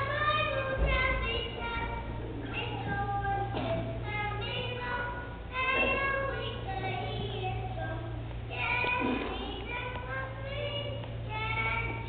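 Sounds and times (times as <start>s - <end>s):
children singing together: 0.0s - 12.0s
steady low hum: 0.0s - 12.0s.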